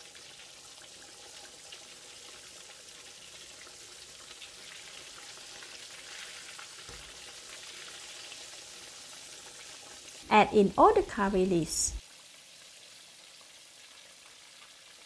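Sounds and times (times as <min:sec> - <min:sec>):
fish deep-frying in sizzling oil: 0:00.0 - 0:11.4, 0:12.0 - 0:15.0.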